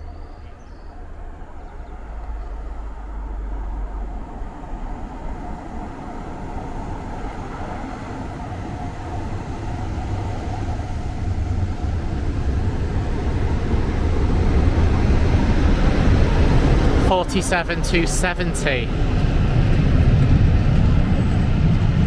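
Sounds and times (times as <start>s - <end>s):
diesel locomotive rumbling: 0.0s - 22.0s.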